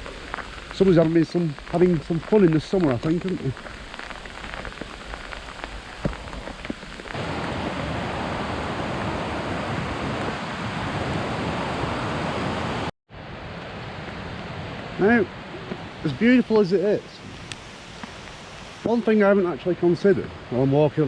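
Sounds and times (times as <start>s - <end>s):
falling snow pattering hiss: 0.0s - 11.2s, 15.0s - 20.8s.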